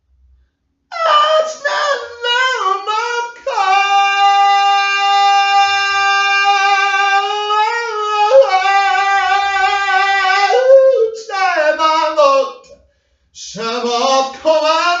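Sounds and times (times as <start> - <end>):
person singing wordless chant: 0.9 - 12.8, 13.4 - 15.0.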